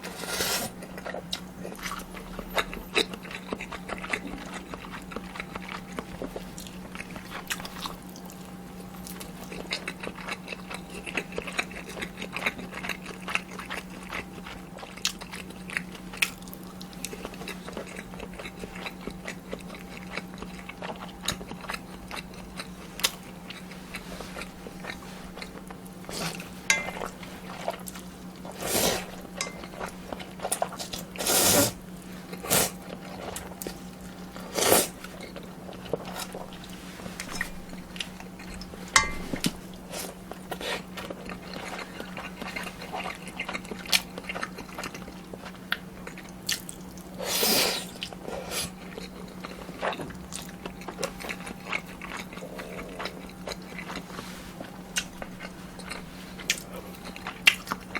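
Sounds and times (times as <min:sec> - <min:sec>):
soft chewing: 0:00.0 - 0:57.9
steady low hum: 0:00.0 - 0:57.9.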